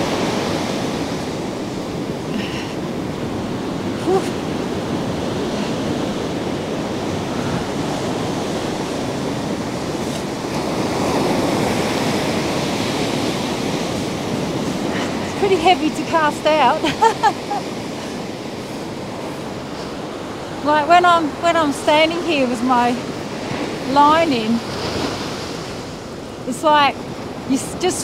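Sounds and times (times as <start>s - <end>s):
surf breaking on a beach: 0.0s - 28.0s.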